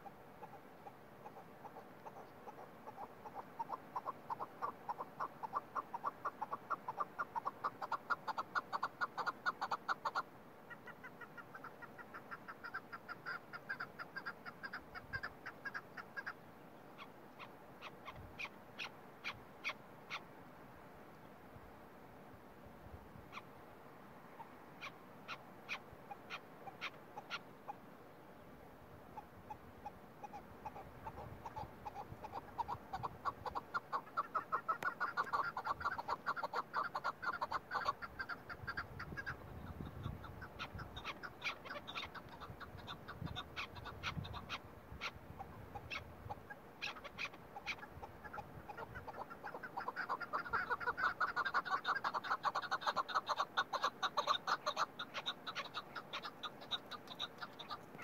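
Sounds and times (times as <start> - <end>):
partridge clucking calls: 0.0 - 20.3, 23.3 - 23.6, 24.3 - 27.8, 29.1 - 58.0.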